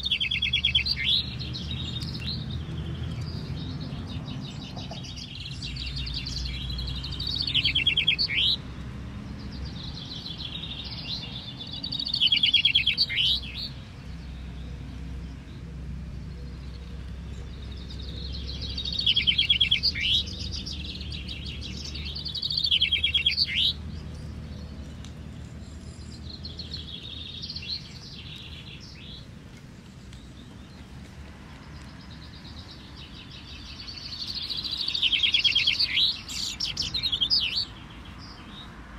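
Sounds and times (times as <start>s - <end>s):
chaffinch song trills: 0.0s - 31.0s, 31.6s - 38.8s.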